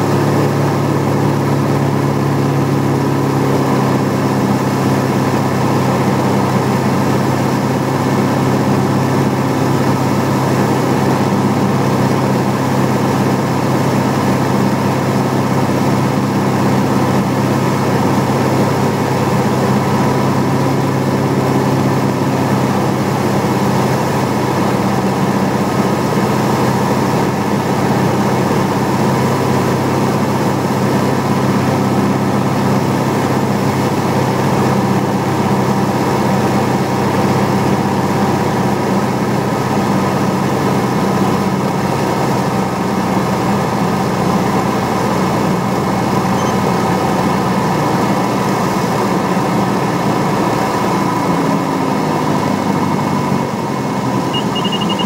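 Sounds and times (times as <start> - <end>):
aircraft engine drone in cabin: 0.0 - 55.0.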